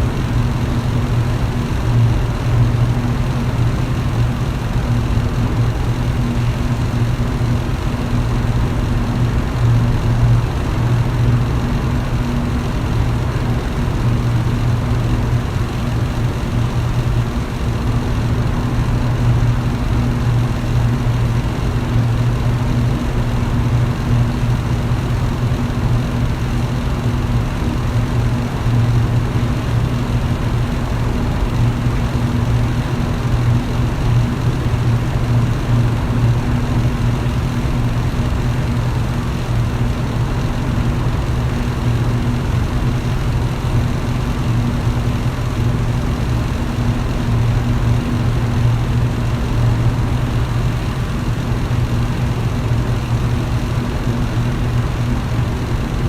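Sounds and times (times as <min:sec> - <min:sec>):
fan motor hum: 0:00.0 - 0:56.0
rush of air from fan: 0:00.0 - 0:56.0.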